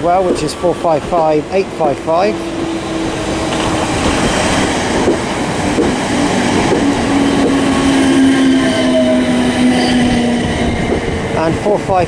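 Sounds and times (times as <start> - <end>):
electric train rolling rumble: 0.0 - 12.0.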